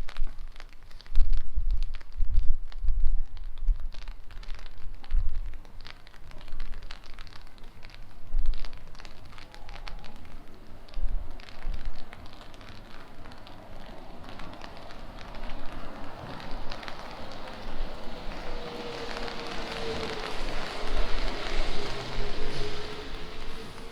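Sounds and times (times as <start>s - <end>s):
raindrops ticking on hard surface: 0.0s - 23.9s.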